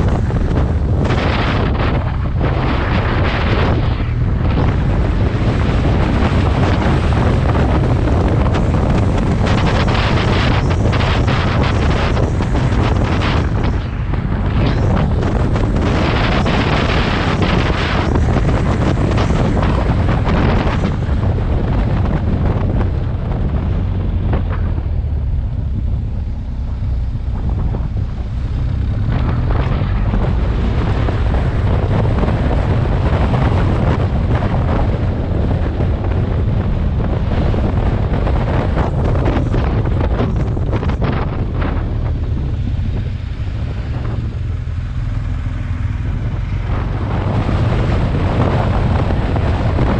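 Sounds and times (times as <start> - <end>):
motorcycle engine rumble: 0.0 - 49.9
wind buffeting microphone: 0.0 - 49.9.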